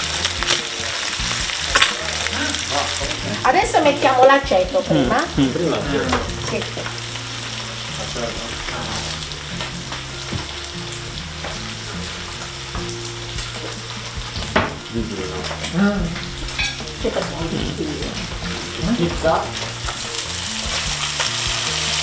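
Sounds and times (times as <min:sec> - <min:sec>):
fish sizzling in oil: 0:00.0 - 0:22.0.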